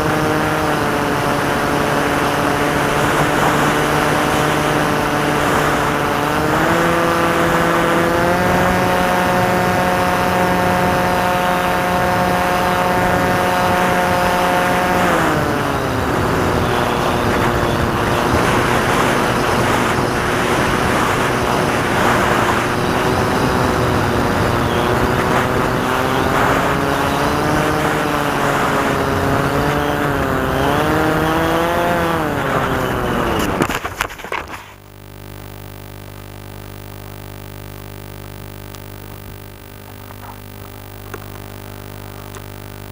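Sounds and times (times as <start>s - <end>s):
model aircraft electric motor: 0.0s - 34.5s.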